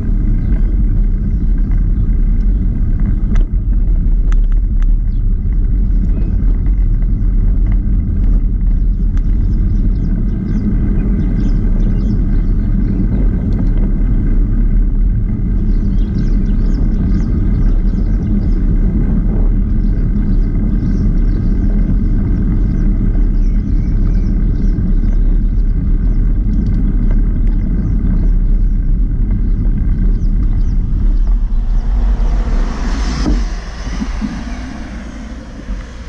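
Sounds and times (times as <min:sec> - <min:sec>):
tyre noise on road: 0:00.0 - 0:36.0
wind rumbling on microphone: 0:00.0 - 0:36.0.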